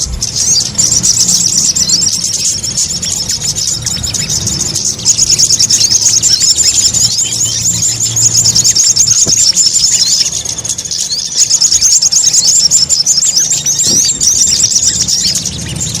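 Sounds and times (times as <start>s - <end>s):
bird call twittering chatter: 0.0s - 16.0s.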